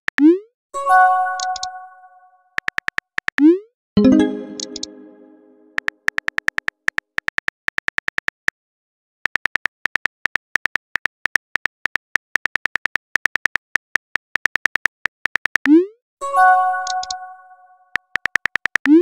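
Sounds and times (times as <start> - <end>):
on-screen keyboard typing ticks: 0.1 - 0.4, 1.2 - 2.0, 2.6 - 8.5, 9.2 - 15.9, 16.6 - 19.0.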